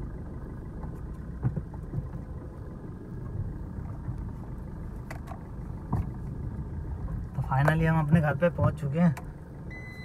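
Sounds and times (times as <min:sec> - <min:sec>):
car driving over rough dirt road: 0:00.0 - 0:09.8.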